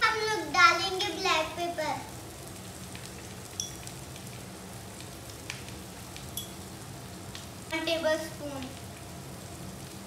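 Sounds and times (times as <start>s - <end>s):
rice sizzling in a wok: 0.1s - 10.0s
light crackles: 1.6s - 10.0s.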